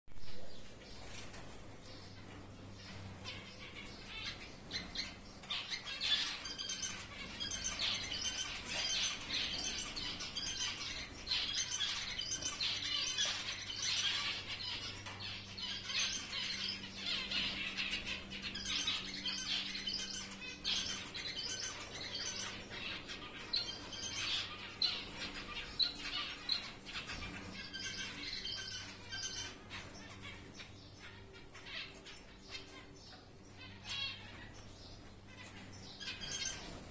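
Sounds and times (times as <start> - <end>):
steady low hum: 0.1 - 36.9
finches calling: 0.2 - 36.9.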